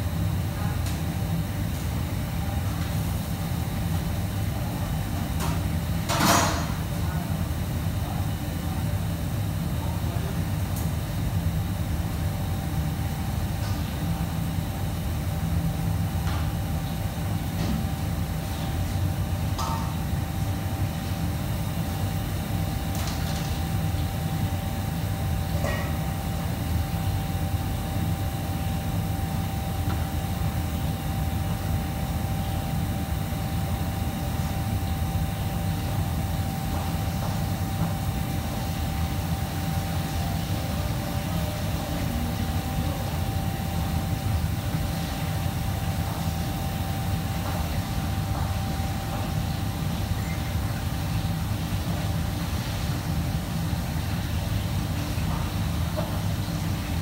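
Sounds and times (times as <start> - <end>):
faint hum: 0.0 - 57.0
kitchen fans rumbling: 0.0 - 57.0.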